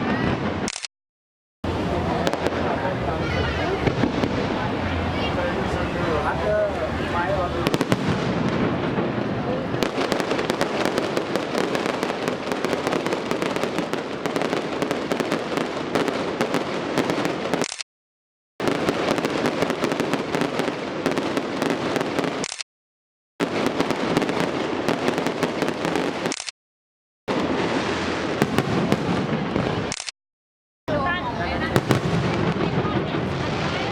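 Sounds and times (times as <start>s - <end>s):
fireworks bangs: 1.6s - 17.7s, 18.6s - 22.5s, 23.4s - 26.4s, 27.3s - 30.0s, 30.9s - 33.9s
fireworks crackling: 1.6s - 17.8s, 18.6s - 22.6s, 23.4s - 26.5s, 27.3s - 30.1s, 30.9s - 33.9s.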